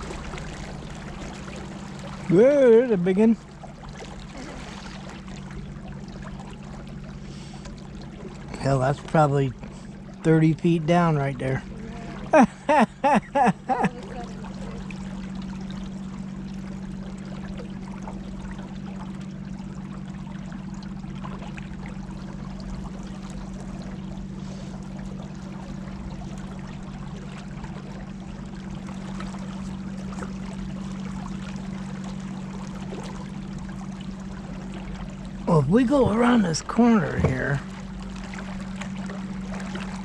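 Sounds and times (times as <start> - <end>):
steady low hum: 0.0 - 40.0
water lapping against boat hull: 0.0 - 40.0.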